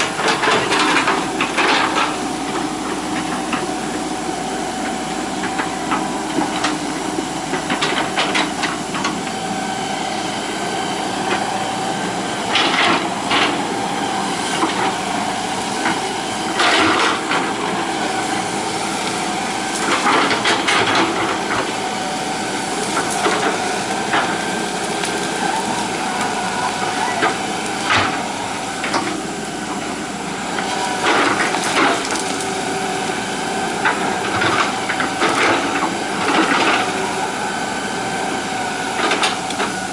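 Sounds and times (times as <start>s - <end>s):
excavator engine and hydraulics whine: 0.0s - 39.9s.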